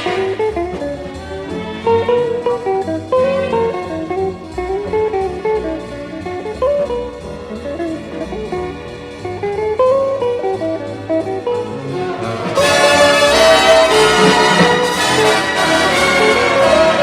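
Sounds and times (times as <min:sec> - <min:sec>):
light orchestral music: 0:00.0 - 0:17.0.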